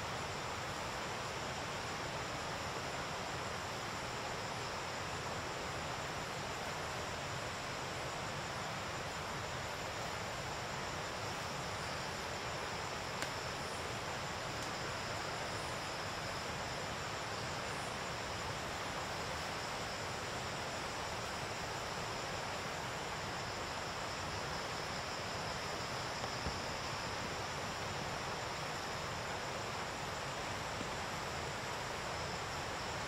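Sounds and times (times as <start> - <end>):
chorus of forest insects: 0.0 - 33.0.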